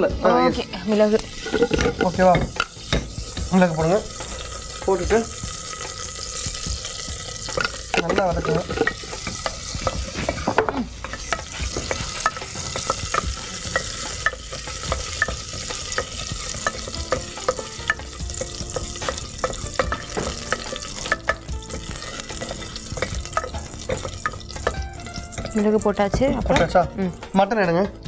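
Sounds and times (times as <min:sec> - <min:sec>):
spices sizzling in hot oil: 0:00.0 - 0:28.0
spices popping: 0:00.8 - 0:27.8.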